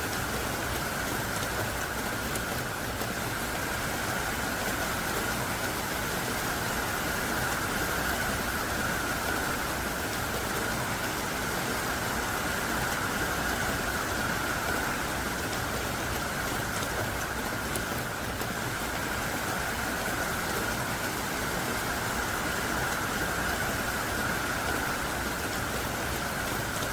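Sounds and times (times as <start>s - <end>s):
heavy rain downpour: 0.0s - 26.9s.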